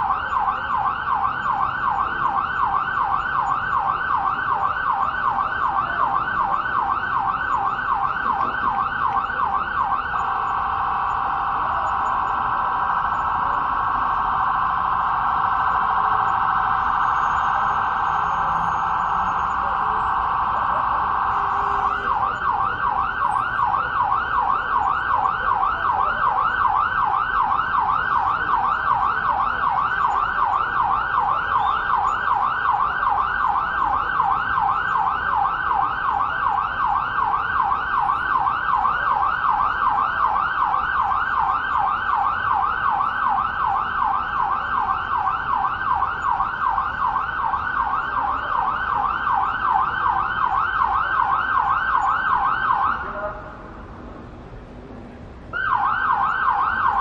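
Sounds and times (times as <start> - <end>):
electronic siren yelping: 0.0 - 53.6, 55.6 - 57.0.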